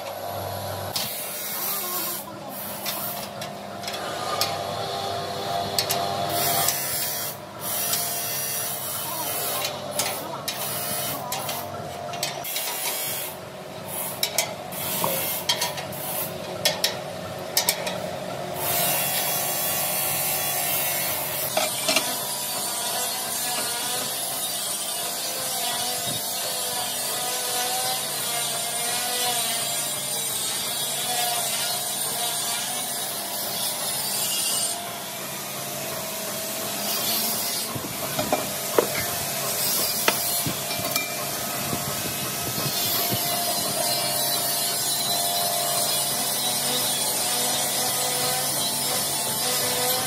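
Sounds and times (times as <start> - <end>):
power tool grinding metal: 0.0 - 50.0.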